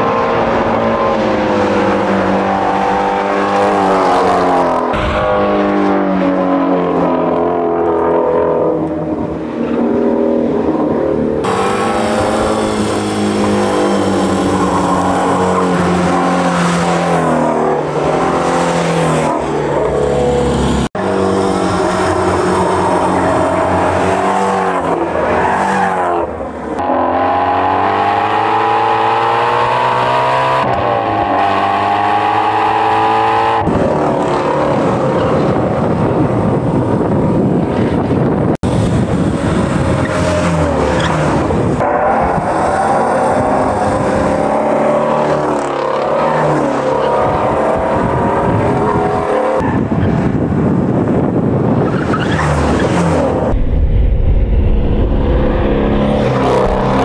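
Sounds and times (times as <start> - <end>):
race car engines at full throttle: 0.0 - 57.0.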